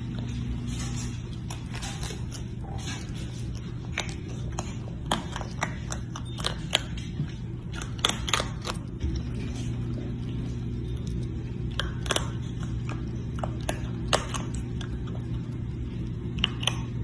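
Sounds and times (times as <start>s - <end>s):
animal chewing with crunching clicks: 0.0s - 17.0s
steady low hum: 0.0s - 17.0s.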